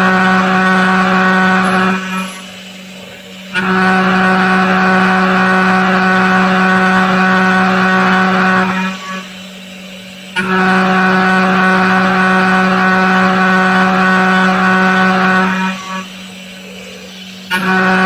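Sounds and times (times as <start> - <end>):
milling machine spindle whine: 0.0 - 18.0.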